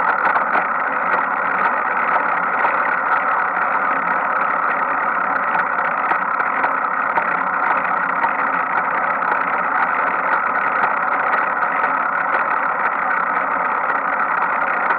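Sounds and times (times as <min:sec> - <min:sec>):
bicycle drivetrain turning: 0:00.0 - 0:14.9.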